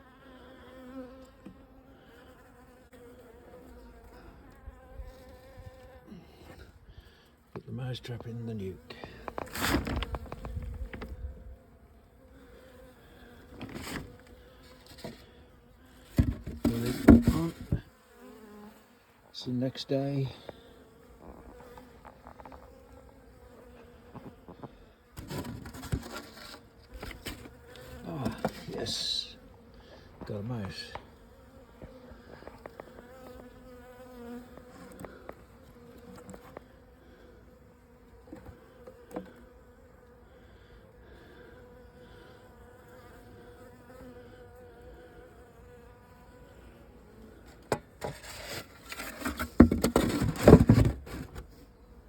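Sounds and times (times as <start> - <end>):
honeybees buzzing: 0.0 - 52.0.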